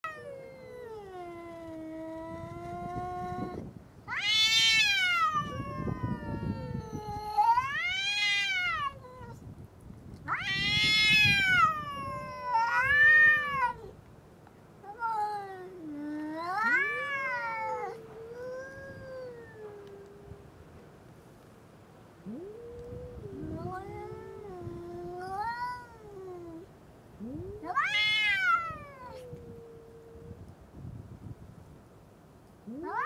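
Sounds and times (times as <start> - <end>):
cats yowling: 0.0 - 9.4, 10.3 - 13.9, 14.8 - 20.4, 22.2 - 30.4, 32.6 - 33.0.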